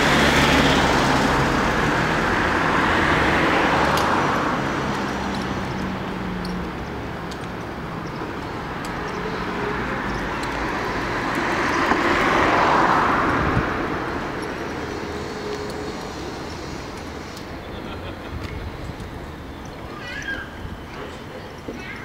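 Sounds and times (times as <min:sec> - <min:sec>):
vehicles passing: 0:00.0 - 0:22.0.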